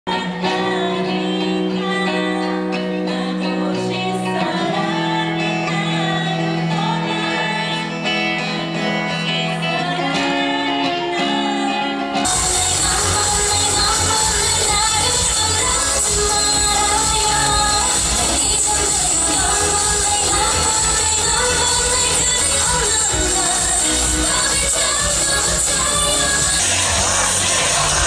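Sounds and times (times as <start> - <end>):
guitar: 0.0 - 28.0
loud pop music: 0.1 - 28.0
women singing: 0.1 - 28.0.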